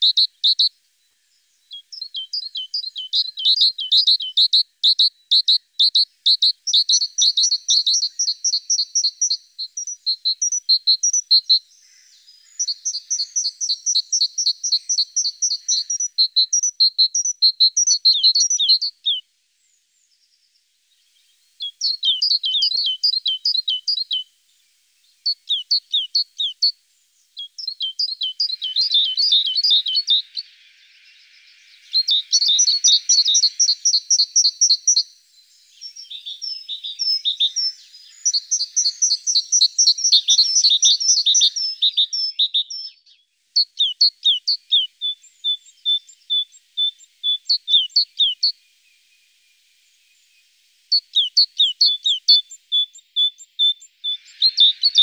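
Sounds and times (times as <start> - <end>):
songbirds trilling: 0.0 - 55.0.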